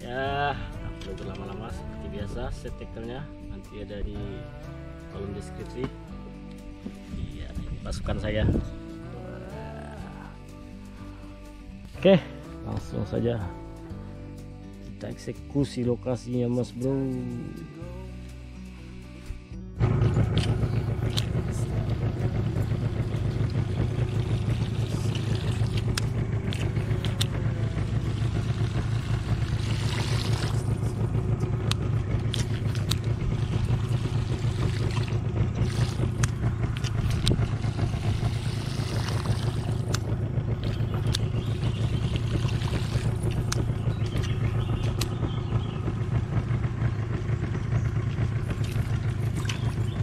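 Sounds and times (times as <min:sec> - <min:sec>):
boat engine running: 0:00.0 - 0:50.0.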